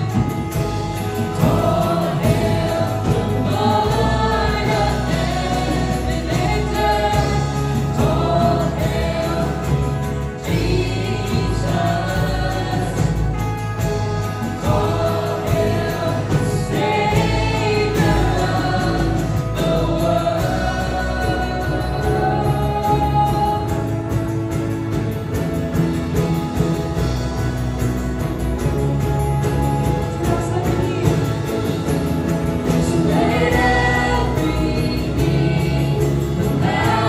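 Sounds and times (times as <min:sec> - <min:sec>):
band playing: 0:00.0 - 0:37.0
group singing worship song: 0:00.0 - 0:37.0
sustained bass notes: 0:00.0 - 0:37.0.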